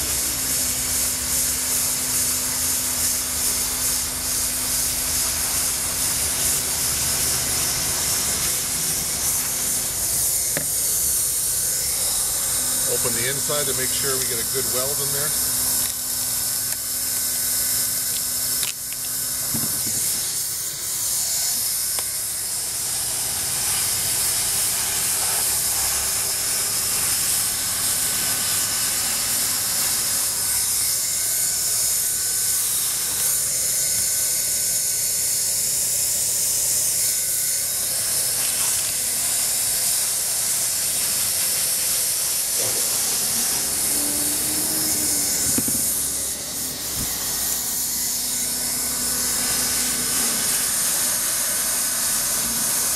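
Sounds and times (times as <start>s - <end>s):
hot-air welder hissing: 0.0s - 52.9s.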